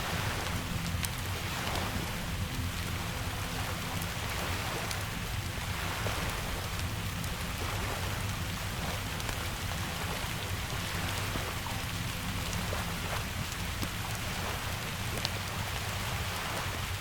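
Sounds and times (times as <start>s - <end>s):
steady rain: 0.0s - 17.0s
wood fire crackling: 0.4s - 16.2s.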